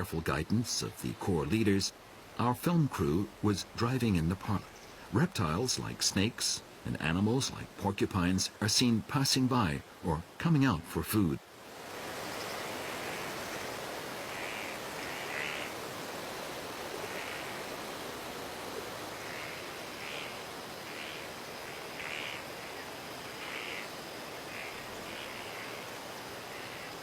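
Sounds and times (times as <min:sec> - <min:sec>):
frogs croaking: 0:00.0 - 0:10.1, 0:11.9 - 0:27.0
steady background hiss: 0:00.0 - 0:27.0.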